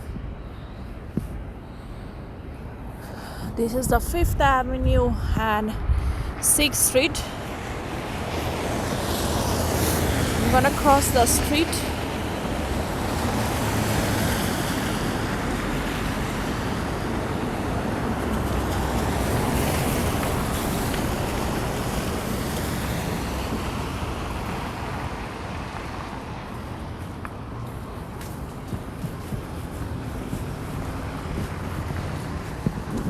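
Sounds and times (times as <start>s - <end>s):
passing vehicles: 0.0s - 33.0s
tyres on snowy road: 0.0s - 33.0s.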